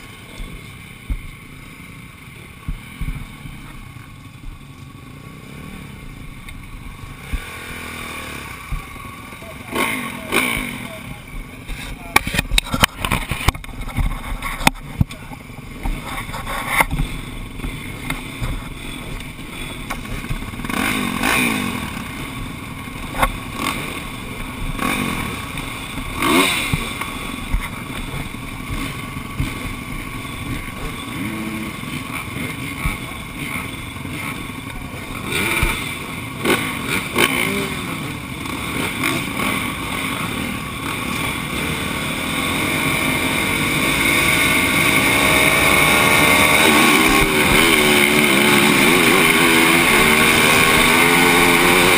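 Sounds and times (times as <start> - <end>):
motocross engines revving: 0.0 - 51.9.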